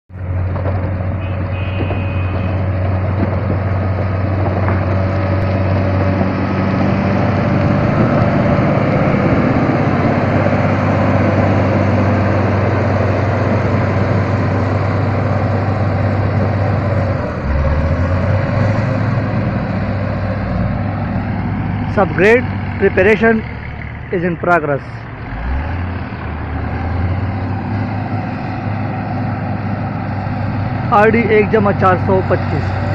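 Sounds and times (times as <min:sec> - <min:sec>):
diesel engine running under load: 0:00.1 - 0:32.9.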